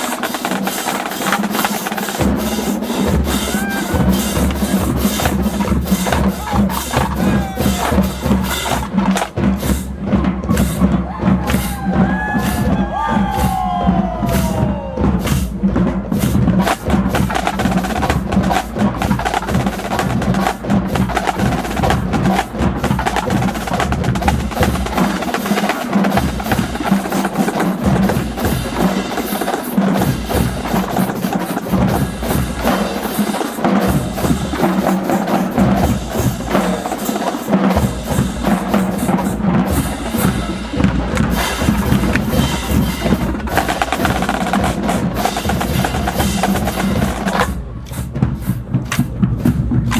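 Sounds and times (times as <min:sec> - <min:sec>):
marching drumline playing: 0:00.0 - 0:49.9.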